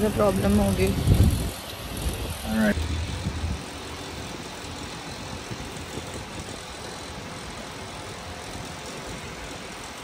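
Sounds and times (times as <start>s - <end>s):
tram running: 0.0s - 10.0s.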